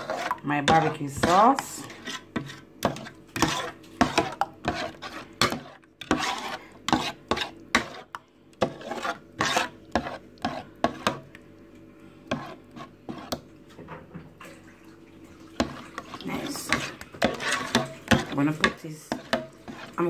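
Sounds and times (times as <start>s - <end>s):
spoon scraping a baking tin: 0.0s - 11.2s, 12.3s - 13.4s, 15.6s - 20.0s.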